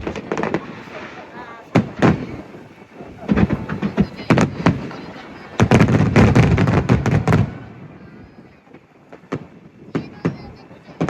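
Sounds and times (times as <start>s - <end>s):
fireworks bangs: 0.0s - 11.0s
fireworks cracks: 0.0s - 11.0s
fireworks rumble: 0.0s - 11.0s.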